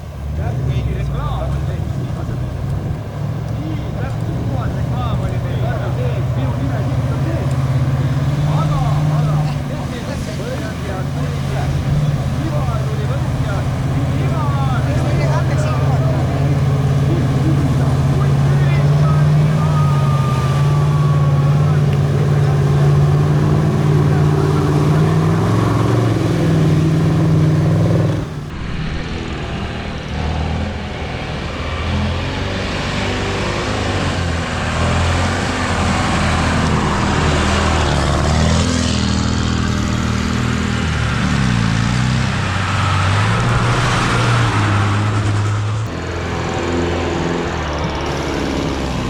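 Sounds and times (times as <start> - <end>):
racing truck engines revving: 0.0 - 49.0.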